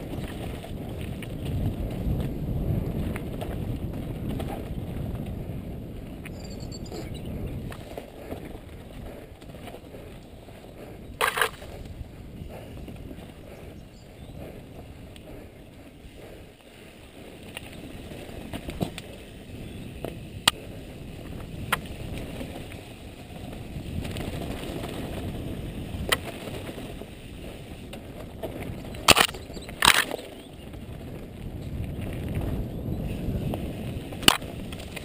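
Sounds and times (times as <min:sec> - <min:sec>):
bike clicking and rattling: 0:00.0 - 0:35.0
bike tyres rumbling over dirt: 0:00.0 - 0:35.0.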